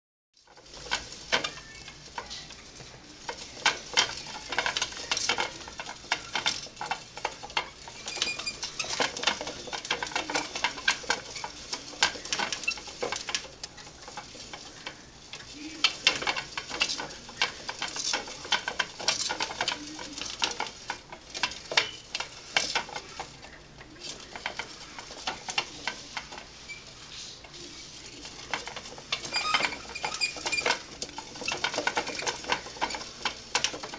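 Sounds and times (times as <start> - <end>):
plastic exercise wheel rattling: 0.4 - 33.9.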